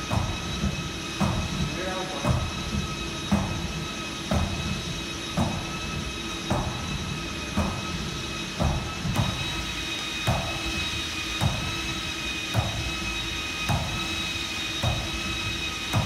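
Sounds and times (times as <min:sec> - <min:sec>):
treadmill motor whine: 0:00.0 - 0:16.0.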